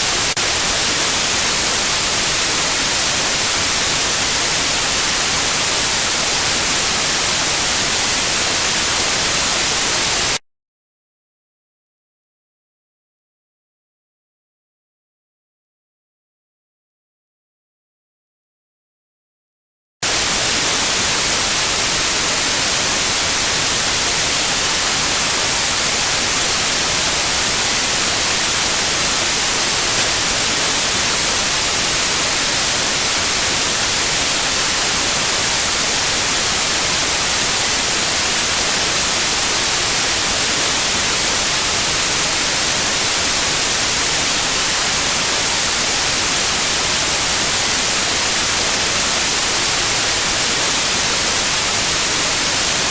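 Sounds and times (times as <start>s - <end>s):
steady high-pitched tone: 0.0s - 10.4s, 20.0s - 52.9s
white noise hiss: 0.0s - 10.4s, 20.0s - 52.9s.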